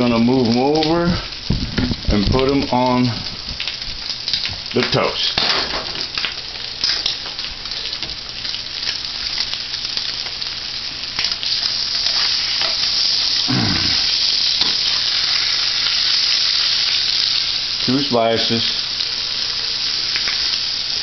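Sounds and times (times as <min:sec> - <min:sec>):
eggs sizzling in a frying pan: 0:00.0 - 0:21.0.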